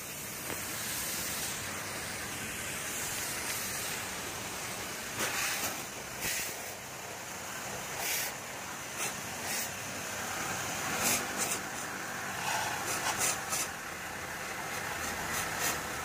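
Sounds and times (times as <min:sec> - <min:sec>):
water spray hissing: 0:00.0 - 0:06.9, 0:07.8 - 0:14.0, 0:14.6 - 0:16.0.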